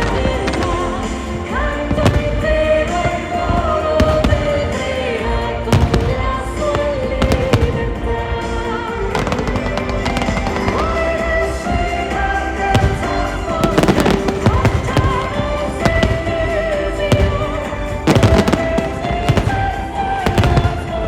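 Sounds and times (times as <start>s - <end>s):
fireworks bursting: 0.0s - 21.0s
music with long held notes: 0.0s - 21.0s.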